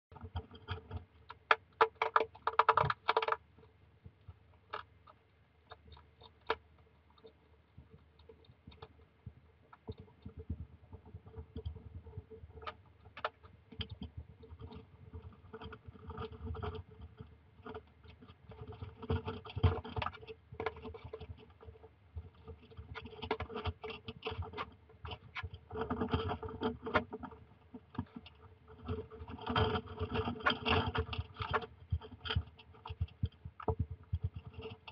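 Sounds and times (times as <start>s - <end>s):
faint steady hum: 0.1s - 34.9s
hedgehog crunching dry kibble: 0.2s - 34.9s.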